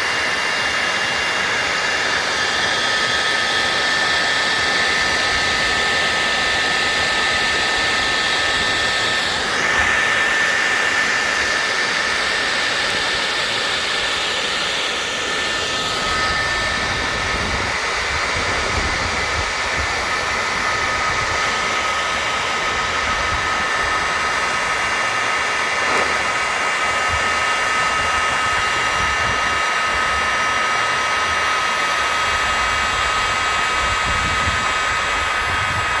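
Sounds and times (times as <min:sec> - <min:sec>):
hot air gun fan whining: 0:00.0 - 0:36.0.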